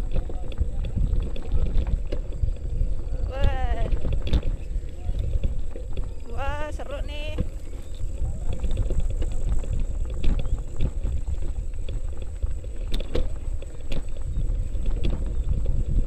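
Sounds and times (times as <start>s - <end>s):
bike rattling and knocking: 0.0s - 16.0s
low rumble: 0.0s - 16.0s.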